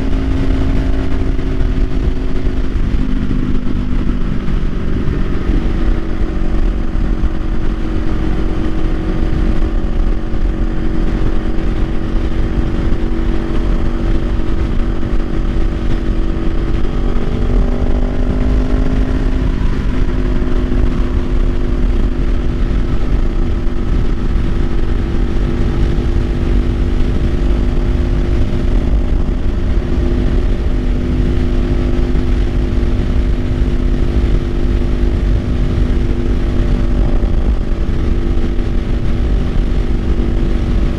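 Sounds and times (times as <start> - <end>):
motorcycle engine cruising: 0.0 - 40.9
wind rumble on microphone: 0.0 - 40.9.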